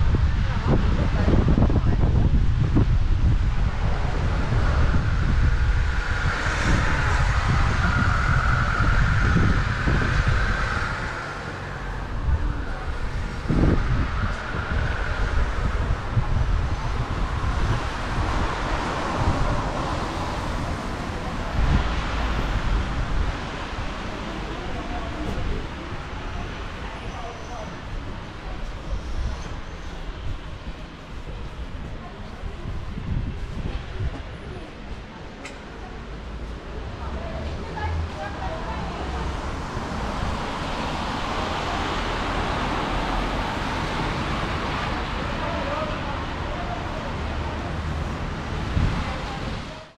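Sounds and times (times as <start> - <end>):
wind buffeting microphone: 0.0 - 49.9
tyres hissing on wet road: 0.1 - 49.9.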